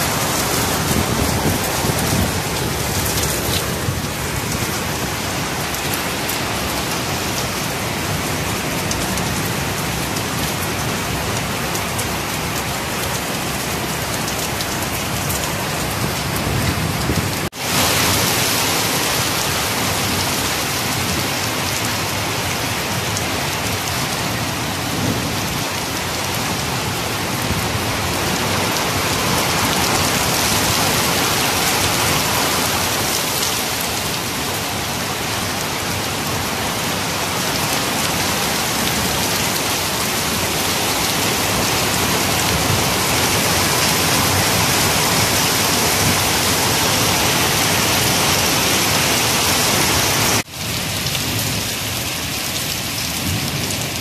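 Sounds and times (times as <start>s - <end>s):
heavy rain on concrete roof: 0.0s - 54.0s.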